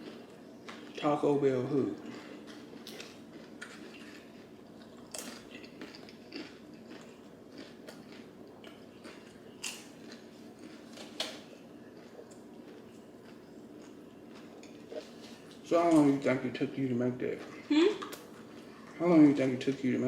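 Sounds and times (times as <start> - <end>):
chewing crunchy food: 0.0 - 16.3, 17.3 - 19.8.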